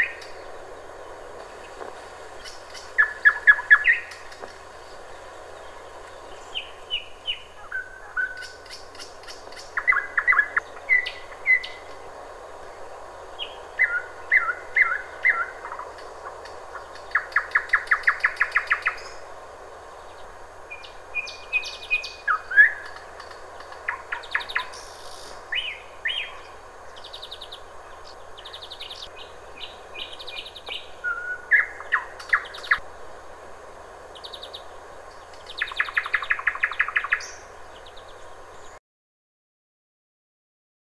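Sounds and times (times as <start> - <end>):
nightingale singing: 0.0 - 32.8, 34.1 - 38.8
faint steady hiss: 0.0 - 38.8.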